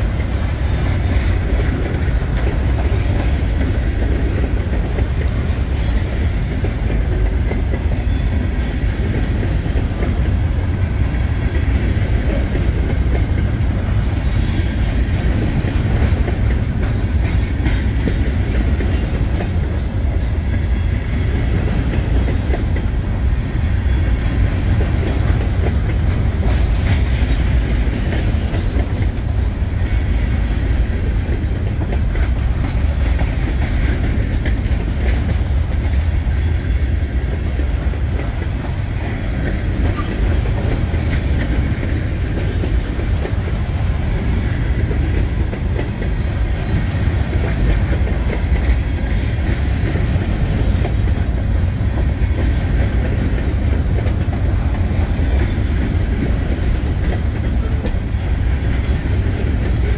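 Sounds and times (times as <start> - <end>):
freight train rumbling past: 0.0 - 59.9
wheels clicking over rail joints: 0.0 - 59.9.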